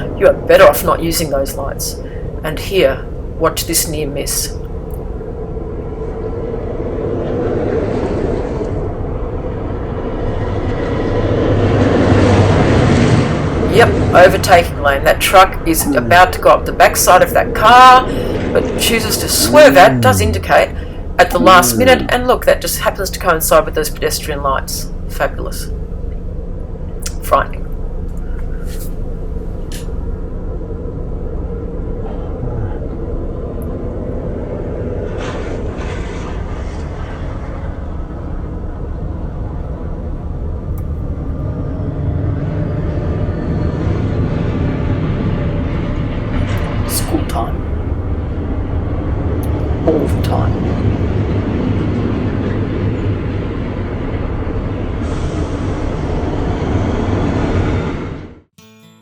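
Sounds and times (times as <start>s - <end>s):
highway traffic: 0.0s - 58.4s
heavy truck passing: 0.0s - 58.5s.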